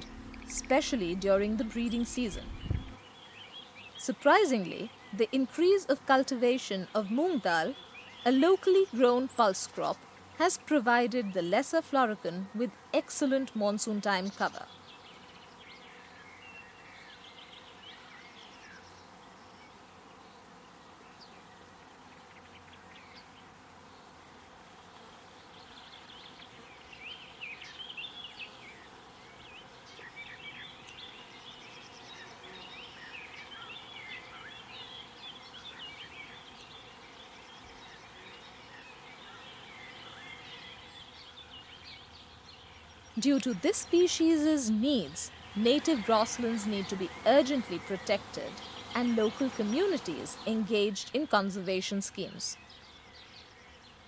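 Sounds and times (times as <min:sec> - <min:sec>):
insect buzz: 0:00.0 - 0:54.0.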